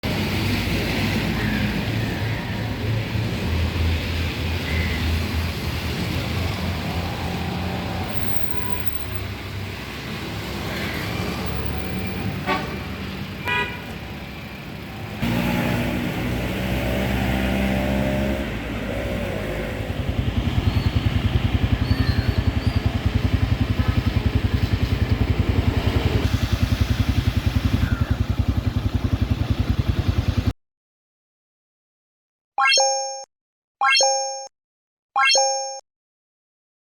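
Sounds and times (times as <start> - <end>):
car and motorcycle engines: 0.0 - 30.5.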